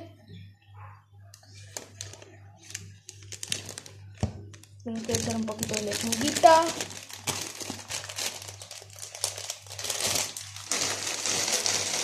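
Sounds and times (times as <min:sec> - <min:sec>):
low steady hum: 0:00.0 - 0:12.0
lettuce crinkling and rustling: 0:01.5 - 0:12.0.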